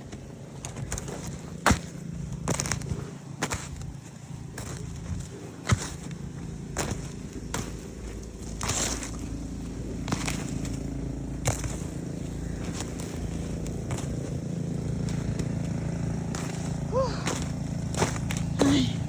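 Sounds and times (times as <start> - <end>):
low engine hum: 0.0 - 19.0
snow shovel scraping packed snow: 2.4 - 19.0.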